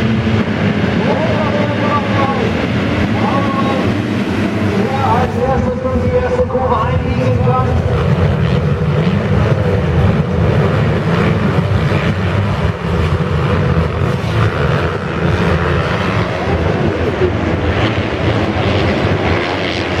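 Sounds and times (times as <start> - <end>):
motocross bikes racing: 0.0 - 20.0.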